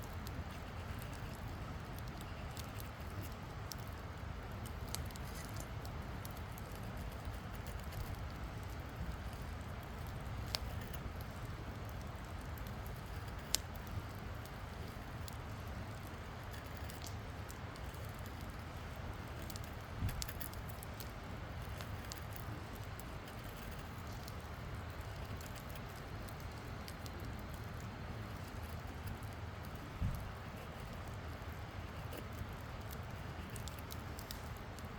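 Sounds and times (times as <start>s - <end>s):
campfire hissing and crackling: 0.0s - 34.9s.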